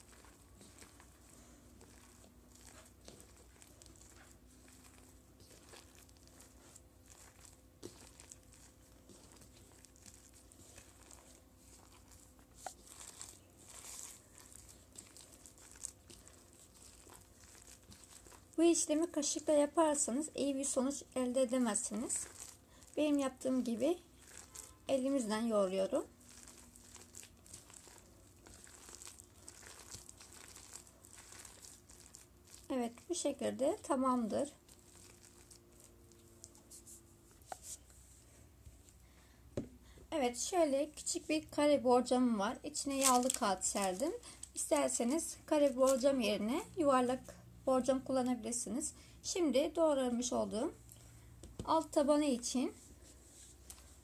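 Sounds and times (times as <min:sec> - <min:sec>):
hands squishing soaked bread: 0:00.0 - 0:48.7.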